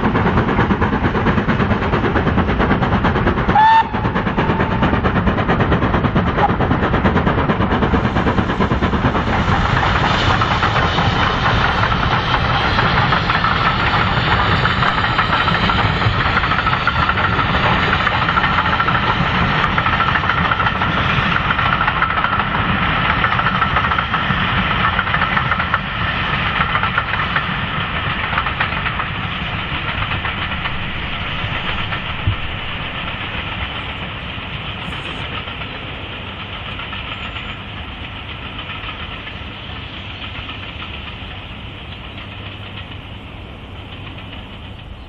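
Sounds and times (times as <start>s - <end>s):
steam locomotive passing: 0.0s - 45.0s.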